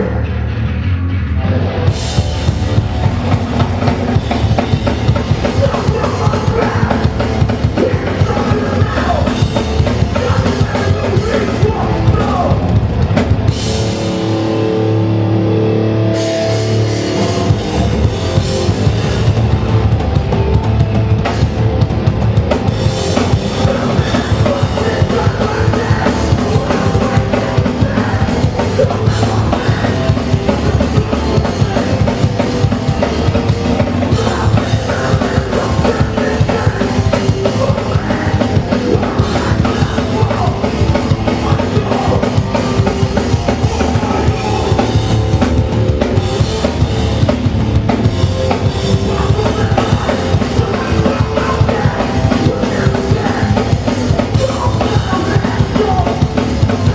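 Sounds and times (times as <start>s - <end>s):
punk band playing live: 0.0s - 56.9s
fast drums: 1.7s - 56.9s.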